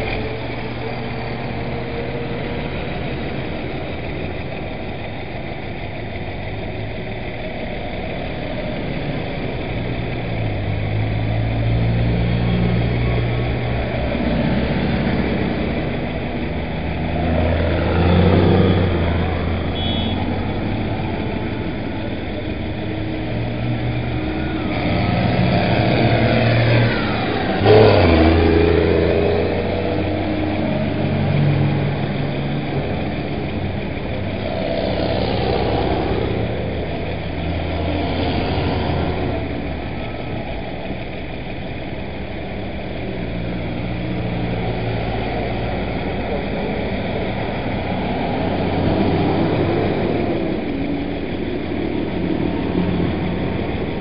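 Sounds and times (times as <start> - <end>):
tractors driving past: 0.0 - 54.0.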